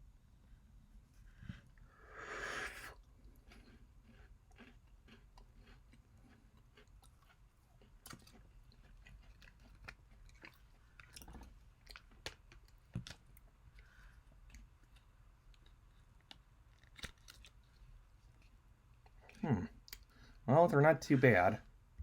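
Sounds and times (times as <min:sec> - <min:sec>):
faint chewing with soft crunches: 0:02.9 - 0:21.8.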